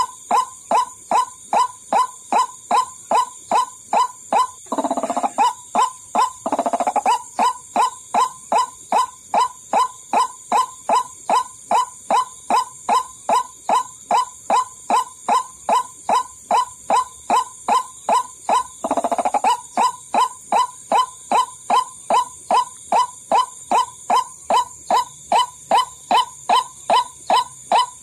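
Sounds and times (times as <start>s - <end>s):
harsh rattling bird call: 0.0s - 28.0s.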